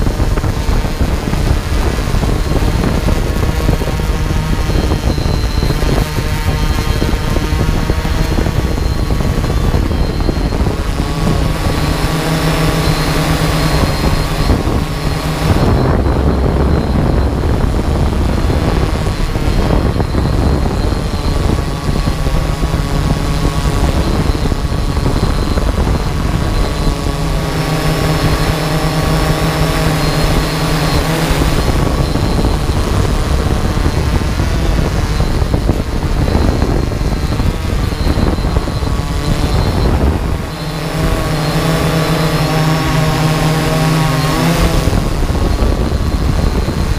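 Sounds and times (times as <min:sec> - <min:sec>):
drone propellers whirring: 0:00.0 - 0:46.9.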